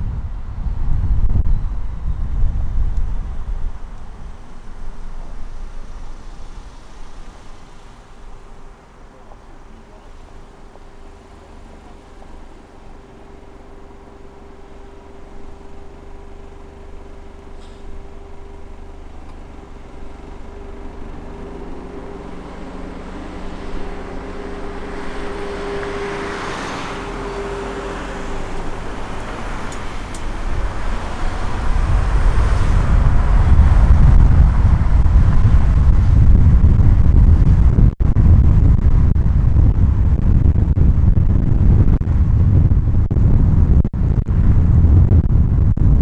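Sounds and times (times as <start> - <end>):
car engine and road noise: 0.0 - 46.0
heavy low rumble: 0.0 - 46.0.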